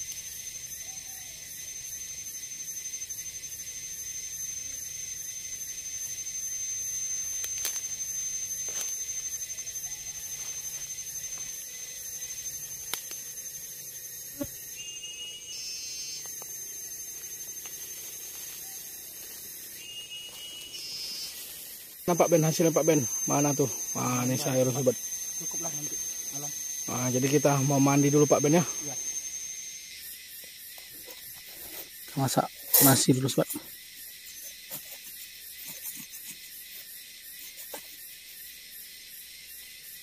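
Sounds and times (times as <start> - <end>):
insects droning: 0.0 - 40.0
pulsing insect trill: 0.0 - 40.0.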